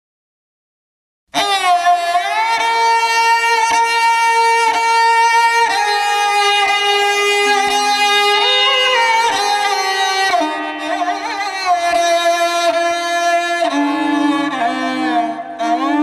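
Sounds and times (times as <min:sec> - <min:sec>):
bowed string melody: 0:01.4 - 0:16.0.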